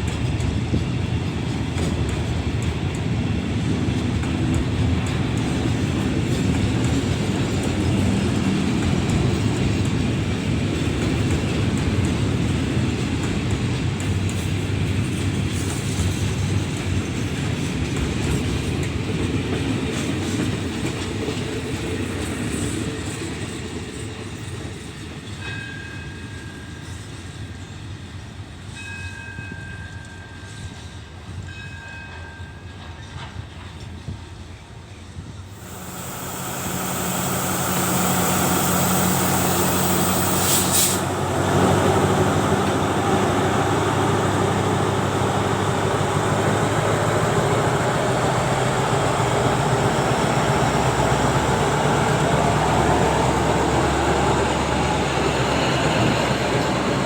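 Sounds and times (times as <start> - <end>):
train rumbling past: 0.0 - 28.9, 30.7 - 57.0.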